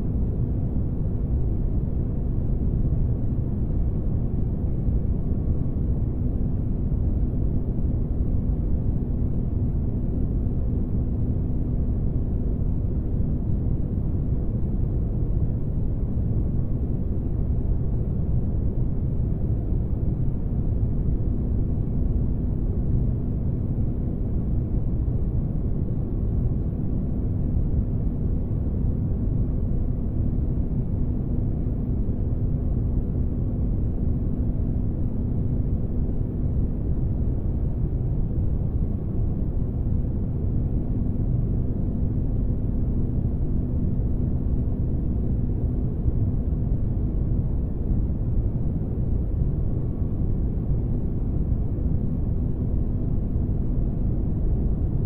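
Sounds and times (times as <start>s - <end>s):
faint constant hum: 0.0s - 55.0s.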